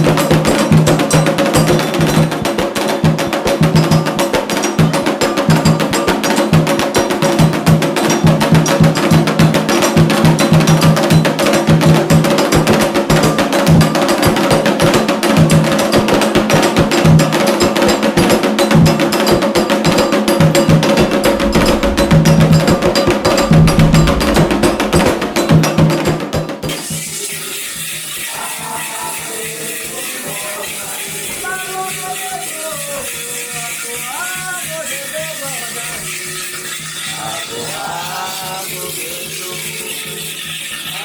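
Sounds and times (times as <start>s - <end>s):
hand drums beating: 0.0s - 41.0s.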